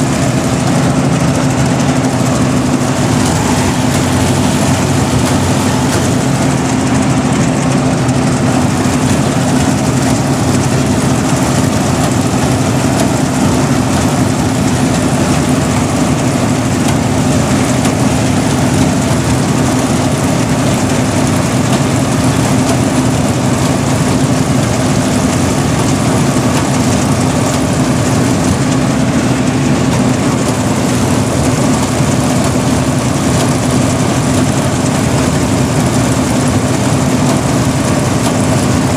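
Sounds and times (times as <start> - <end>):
harvesting machine engine running: 0.0 - 38.9.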